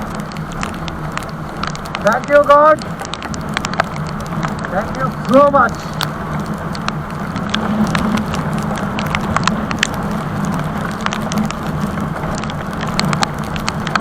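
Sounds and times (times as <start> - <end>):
sharp ticks: 0.0 - 14.0
wind noise: 0.0 - 14.0.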